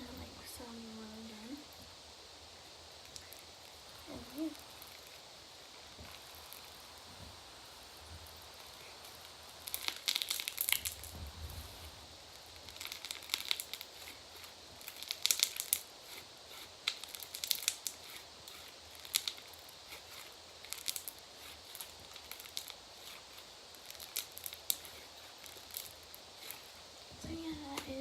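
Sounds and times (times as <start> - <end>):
foam bead slime crackling: 2.6 - 28.0.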